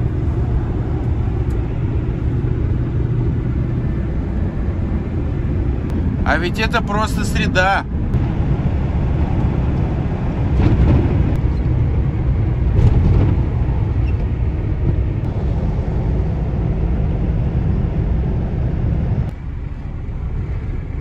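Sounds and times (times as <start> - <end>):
van engine and tyre rumble: 0.0 - 21.0.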